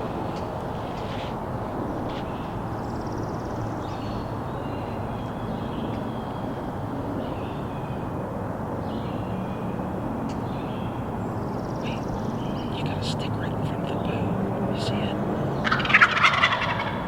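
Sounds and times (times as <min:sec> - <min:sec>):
low outdoor rumble: 0:00.0 - 0:17.0
songbird chirps: 0:00.0 - 0:17.0.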